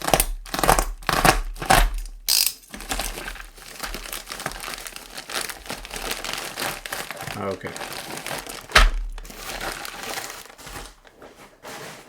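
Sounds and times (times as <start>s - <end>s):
packaging tearing rip: 0.0s - 11.0s
packaging crinkling: 0.0s - 12.0s.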